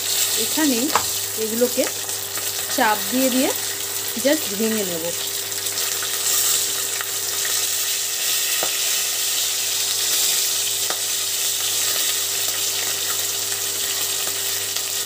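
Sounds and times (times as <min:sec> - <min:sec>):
fish frying in oil: 0:00.0 - 0:15.0.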